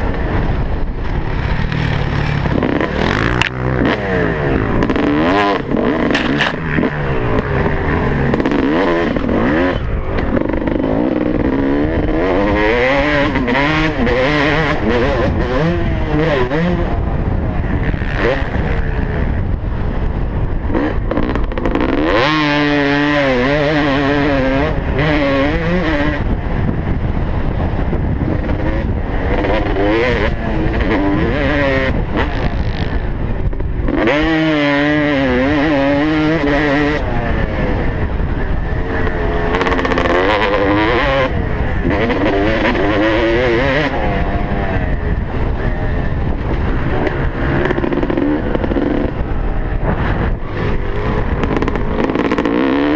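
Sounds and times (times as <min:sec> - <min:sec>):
motocross bike engine revving: 0:00.0 - 0:52.9
wind rumble on microphone: 0:00.0 - 0:52.9.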